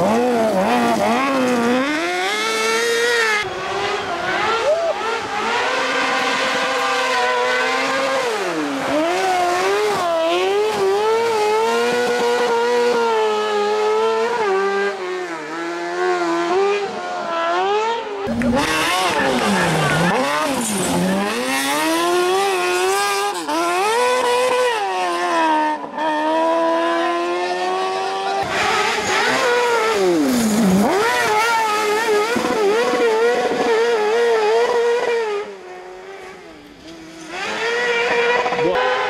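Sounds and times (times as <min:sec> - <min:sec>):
high-revving motorcycle engines: 0:00.0 - 0:39.0.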